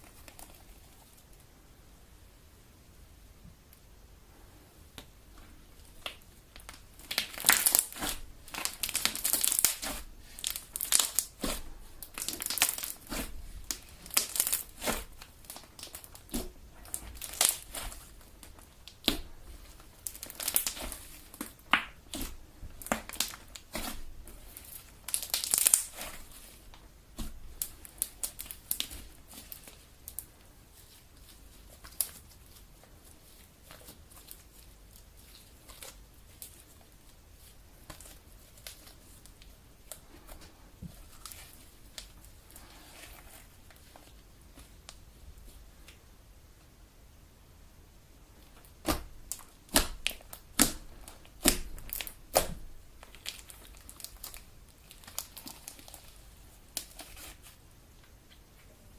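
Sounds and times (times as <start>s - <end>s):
slime crackling and squishing: 5.6s - 45.7s, 48.3s - 58.6s.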